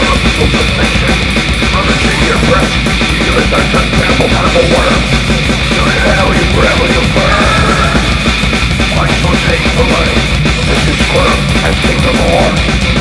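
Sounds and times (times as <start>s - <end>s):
distorted guitars: 0.0s - 13.0s
fast drumming: 0.0s - 13.0s.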